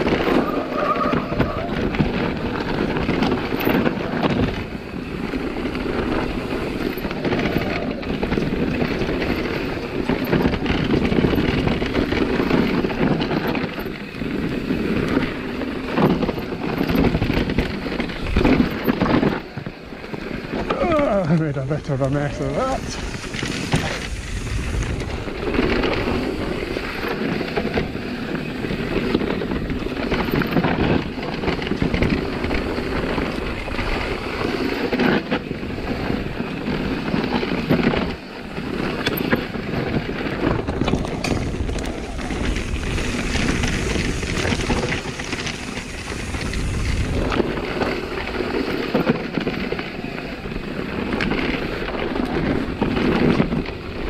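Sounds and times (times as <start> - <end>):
bike knocking and clattering: 0.0 - 54.0
tyres rumbling over dirt: 0.0 - 54.0
wind buffeting microphone: 0.0 - 54.0.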